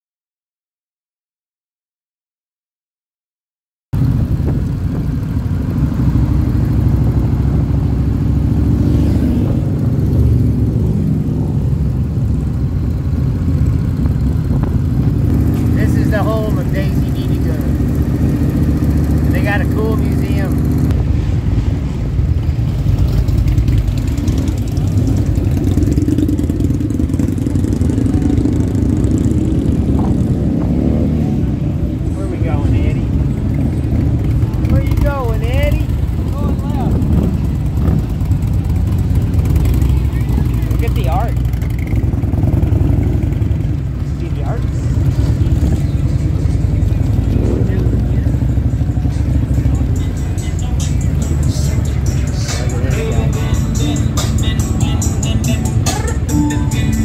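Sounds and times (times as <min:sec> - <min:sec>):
motorcycle engine running: 0:04.0 - 0:57.0.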